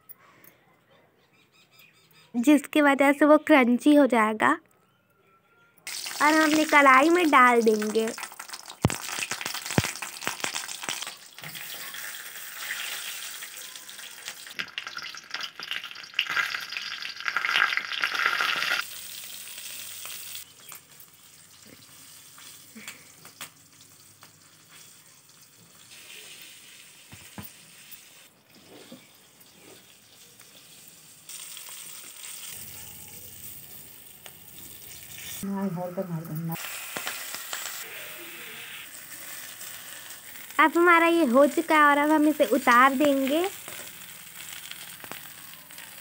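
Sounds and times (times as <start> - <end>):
food sizzling in oil: 5.9 - 46.0.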